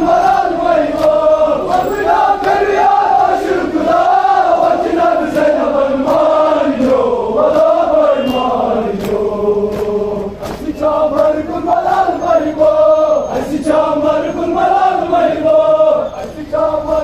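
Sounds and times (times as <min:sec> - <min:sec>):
crowd chanting: 0:00.0 - 0:17.0.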